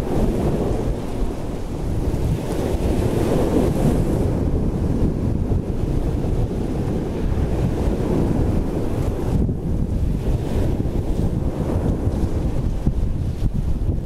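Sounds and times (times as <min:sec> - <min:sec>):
choppy sea waves: 0:00.0 - 0:14.0
wind buffeting microphone: 0:00.0 - 0:14.0.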